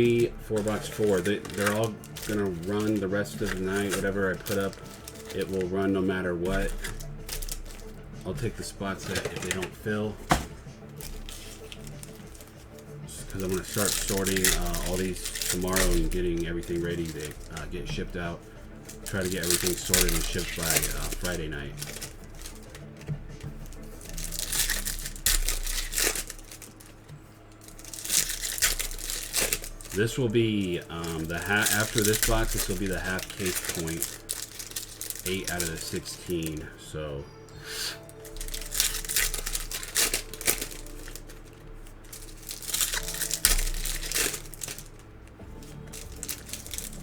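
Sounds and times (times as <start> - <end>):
plastic and foil packaging crinkling: 0.0 - 47.0.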